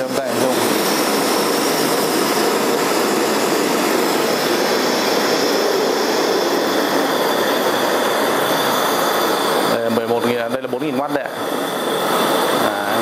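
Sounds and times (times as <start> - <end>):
gas stove burner hissing: 0.0 - 13.0.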